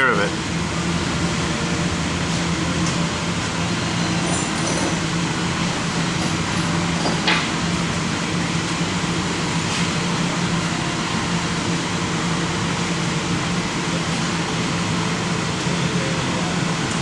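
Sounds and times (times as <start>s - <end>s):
spray booth air system humming: 0.0s - 17.0s.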